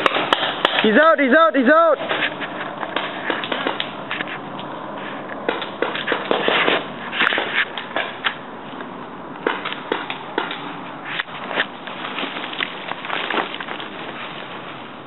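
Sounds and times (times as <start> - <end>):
rustling brush and leaves: 1.9 - 15.0.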